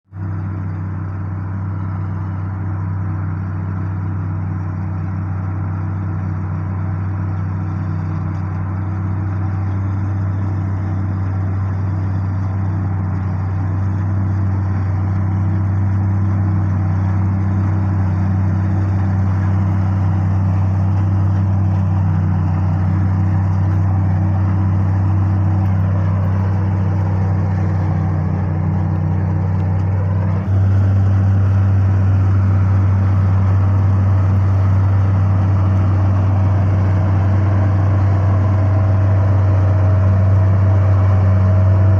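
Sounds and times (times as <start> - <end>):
harvester engine humming: 0.0 - 41.9.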